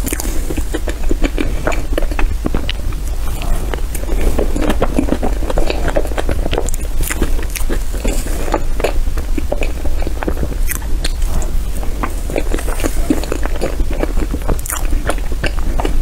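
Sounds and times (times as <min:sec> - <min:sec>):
wet chewing and mouth smacks: 0:00.0 - 0:16.0.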